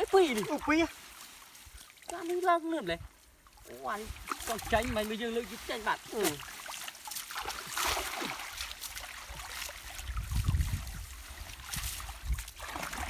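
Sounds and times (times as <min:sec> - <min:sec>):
shallow water splashing: 0:00.0 - 0:13.0.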